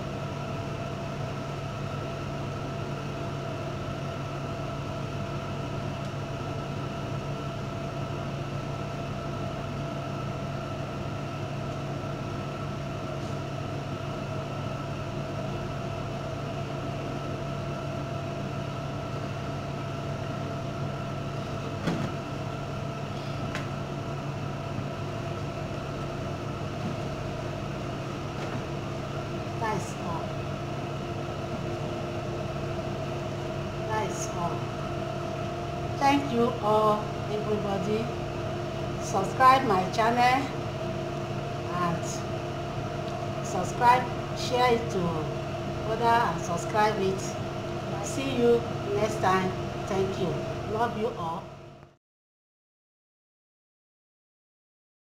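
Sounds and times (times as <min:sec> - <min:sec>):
mechanical hum: 0:00.0 - 0:52.0.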